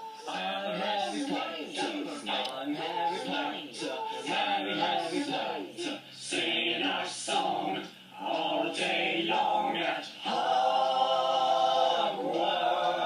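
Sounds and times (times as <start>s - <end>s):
voices singing unaccompanied: 0.0s - 13.0s.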